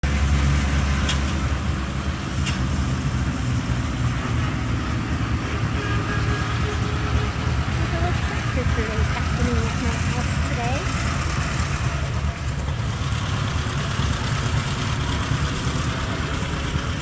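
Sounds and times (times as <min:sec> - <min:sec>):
tractor engine rumbling: 0:00.0 - 0:17.0.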